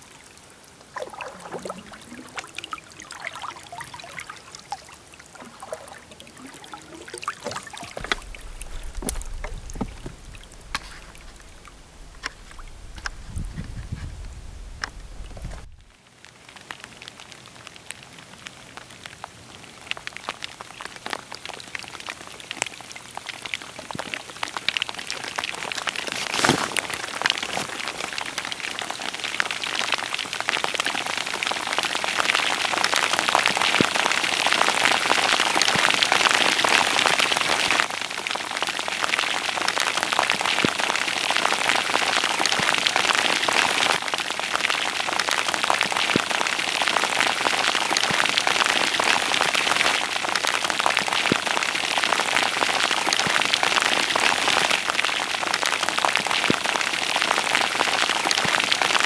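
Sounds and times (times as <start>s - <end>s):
rain on water: 0.0s - 59.0s.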